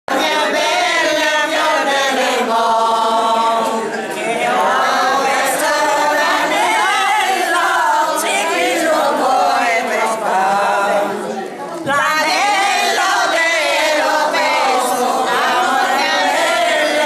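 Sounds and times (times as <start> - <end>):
women singing unaccompanied: 0.1 - 17.0.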